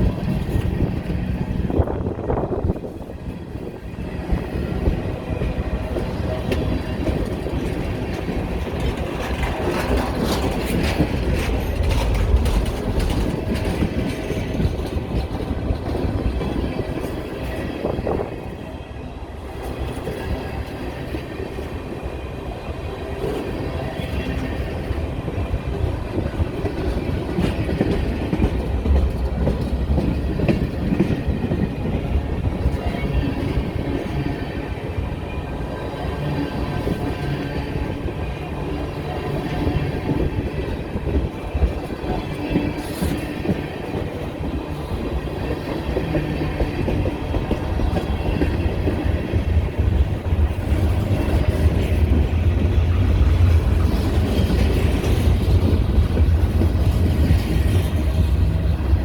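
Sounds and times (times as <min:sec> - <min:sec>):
train wheels clicking on rail joints: 0:00.0 - 0:18.8, 0:19.4 - 0:59.0
train low rumble: 0:00.0 - 0:59.0.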